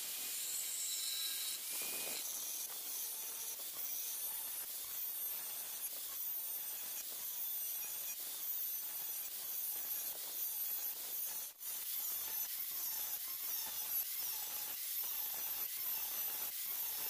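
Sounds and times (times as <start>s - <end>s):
steel being ground: 0.0s - 17.0s.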